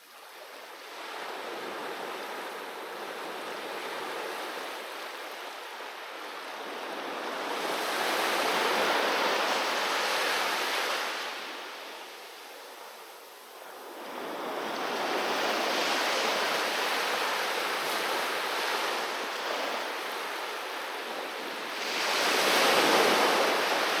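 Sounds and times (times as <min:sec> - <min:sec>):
sea waves breaking on beach: 0:00.6 - 0:12.2, 0:13.8 - 0:24.0.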